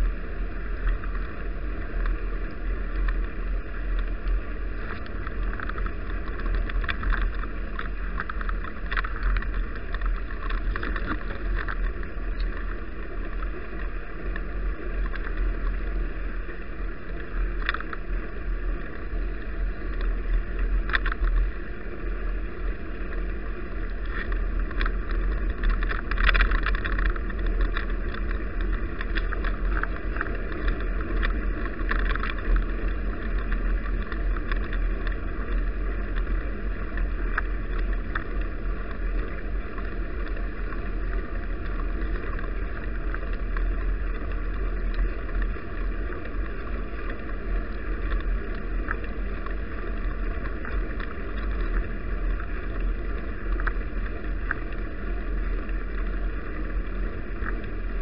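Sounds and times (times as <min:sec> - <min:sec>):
crackles: 0:00.0 - 0:58.0
road and tyre noise: 0:00.0 - 0:58.0.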